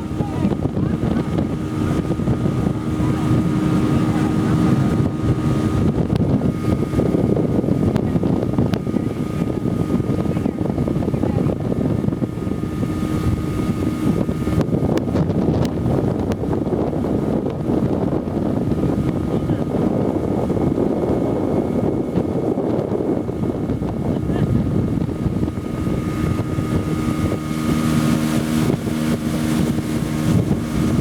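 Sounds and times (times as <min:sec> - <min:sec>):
motorboat engine running: 0:00.0 - 0:31.0
water rushing: 0:00.0 - 0:31.0
wind buffeting microphone: 0:00.0 - 0:31.0.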